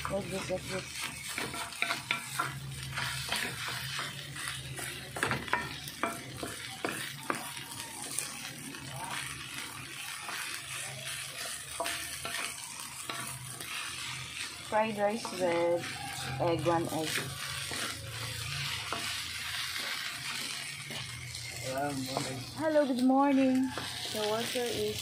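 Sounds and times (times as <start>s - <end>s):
frying sizzle: 0.0s - 25.0s
spatula scraping wok: 0.0s - 25.0s.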